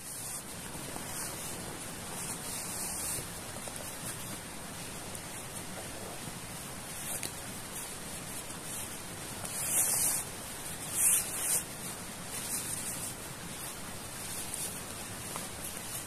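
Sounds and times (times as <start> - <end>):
nylon fabric rustling: 0.0 - 16.0
steady hiss: 0.0 - 16.0.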